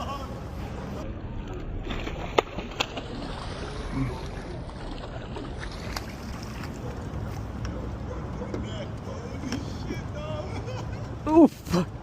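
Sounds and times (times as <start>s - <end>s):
water around kayak: 0.0s - 12.0s.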